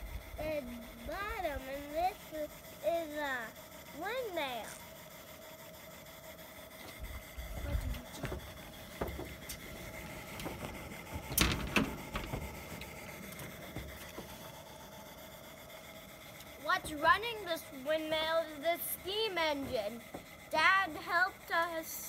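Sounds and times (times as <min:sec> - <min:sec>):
toy steam engine whining: 0:00.0 - 0:22.0.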